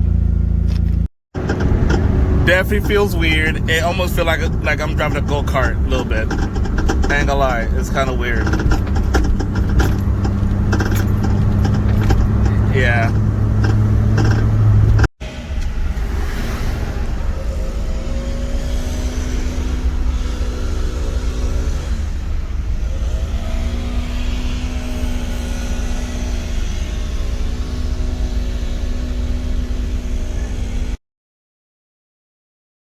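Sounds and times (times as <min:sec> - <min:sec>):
car engine from inside cabin: 0:00.0 - 0:31.0
road noise: 0:00.0 - 0:31.0.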